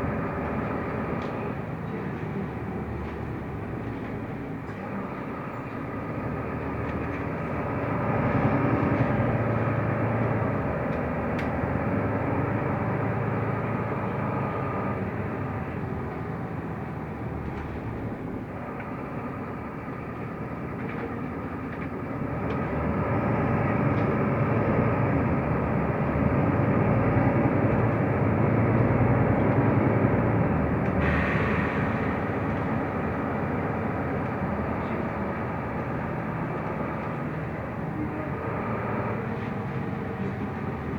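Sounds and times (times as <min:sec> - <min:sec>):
bus diesel engine: 0:00.0 - 0:40.9
road noise: 0:00.0 - 0:40.9.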